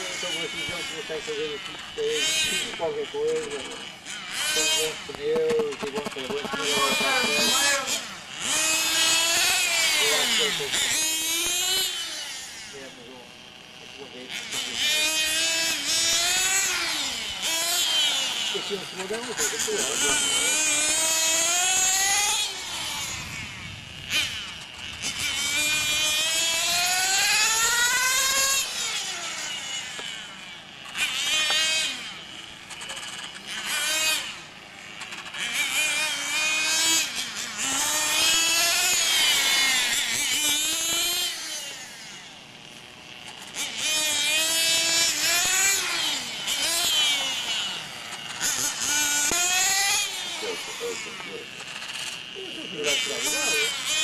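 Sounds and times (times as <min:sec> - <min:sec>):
model motorcycle motor whining: 0:00.0 - 0:54.0
small high-revving engine buzz: 0:00.0 - 0:54.0.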